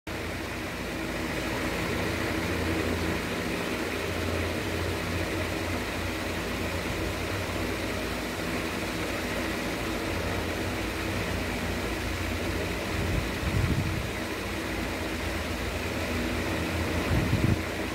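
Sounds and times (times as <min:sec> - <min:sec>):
low mechanical hum: 0:00.1 - 0:17.9.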